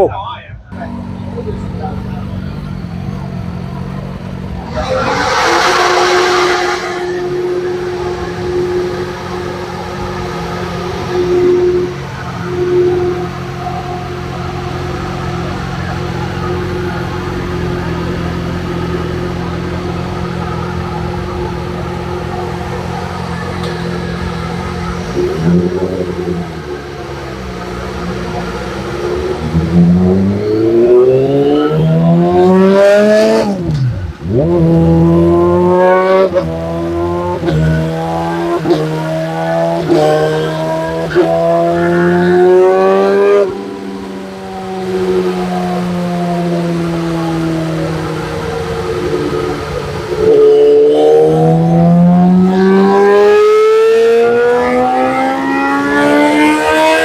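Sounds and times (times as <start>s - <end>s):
sport bike engine revving: 0.8s - 57.0s.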